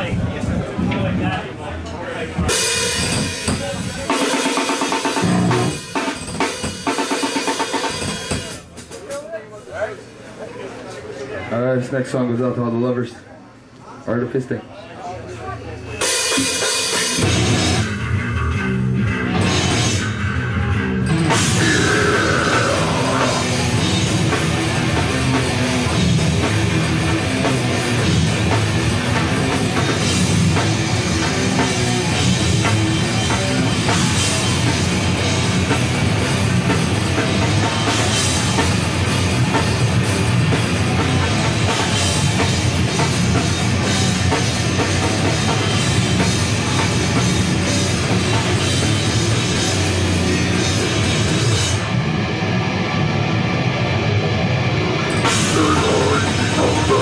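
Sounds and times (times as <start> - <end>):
drum kit: 0.0 - 9.6, 16.0 - 57.0
distorted electric guitar: 2.4 - 8.6, 16.0 - 57.0.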